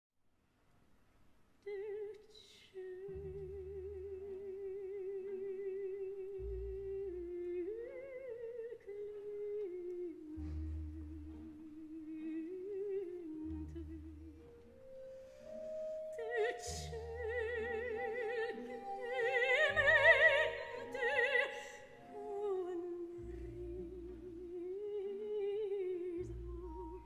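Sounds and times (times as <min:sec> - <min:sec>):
soft low notes: 0:02.8 - 0:27.0.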